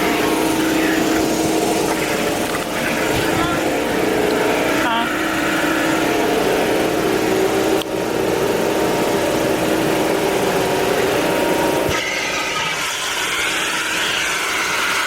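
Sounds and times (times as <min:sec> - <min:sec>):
vacuum motor hum: 0:00.0 - 0:15.0.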